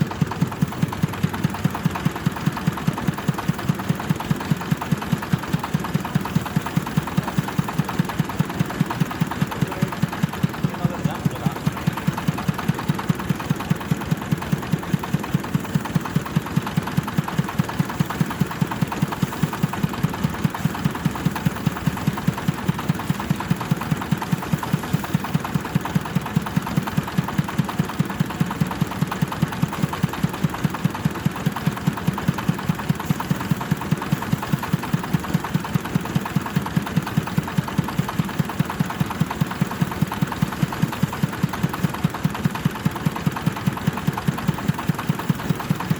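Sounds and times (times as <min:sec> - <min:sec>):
diesel engine running thresher: 0:00.0 - 0:45.9.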